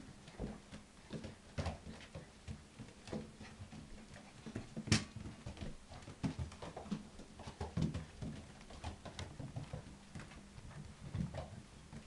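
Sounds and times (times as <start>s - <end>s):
paws tapping on hard floor: 0.1s - 12.0s.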